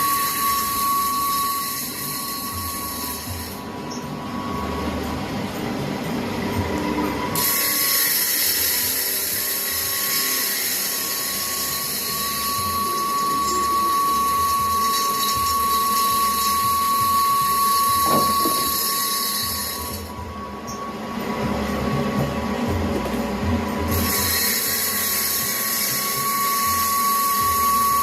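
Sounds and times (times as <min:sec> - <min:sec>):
machine whining and hissing: 0:00.0 - 0:28.0.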